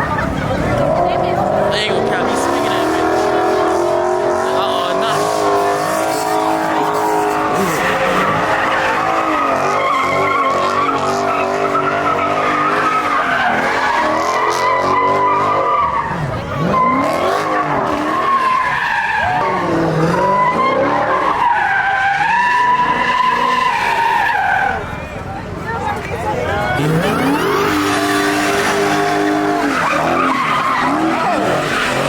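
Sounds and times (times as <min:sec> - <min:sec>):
car tires squealing: 0:00.0 - 0:25.1, 0:26.3 - 0:32.0
car engine revving: 0:00.0 - 0:32.0.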